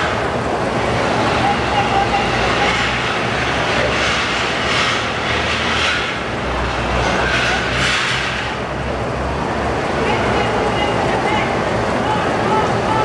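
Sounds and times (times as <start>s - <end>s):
diesel bus engine idling: 0.0s - 7.9s, 8.5s - 13.0s
crowd and station noise: 0.0s - 13.0s.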